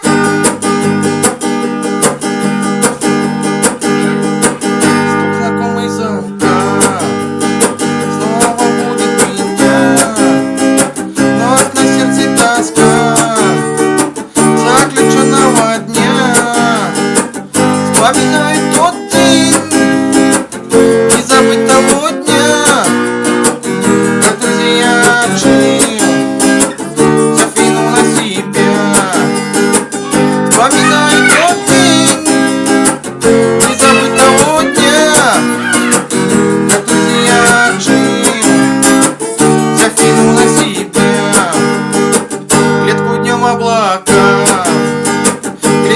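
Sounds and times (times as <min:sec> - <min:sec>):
bending guitar melody: 0:00.0 - 0:45.9
strummed acoustic guitar: 0:00.0 - 0:45.9.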